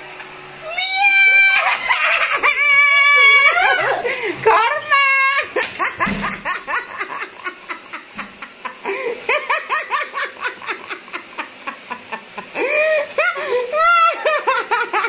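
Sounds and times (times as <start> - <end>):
person laughing hard: 1.1 - 15.0.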